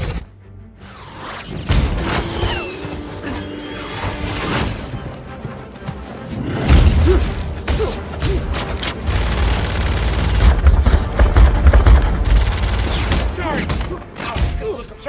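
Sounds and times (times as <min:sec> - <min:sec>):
film music: 0:00.0 - 0:15.0.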